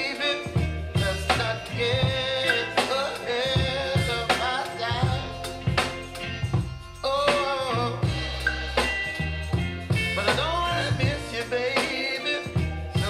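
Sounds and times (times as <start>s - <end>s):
song over speakers: 0.0s - 13.0s.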